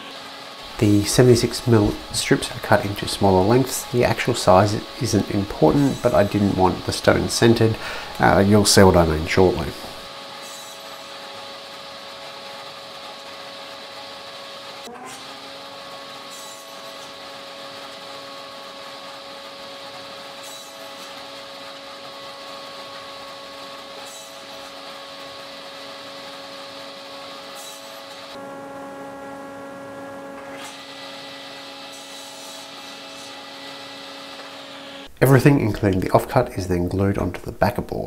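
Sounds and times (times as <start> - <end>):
saw cutting plywood: 0.0 - 35.1
table saw humming: 0.0 - 35.2.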